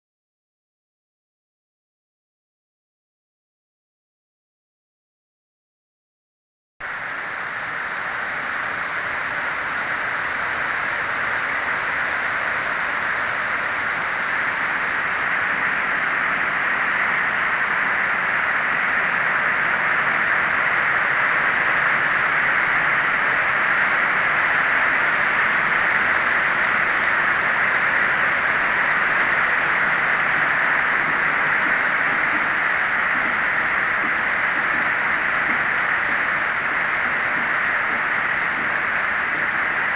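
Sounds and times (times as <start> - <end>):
heavy rain pouring: 6.8 - 39.9.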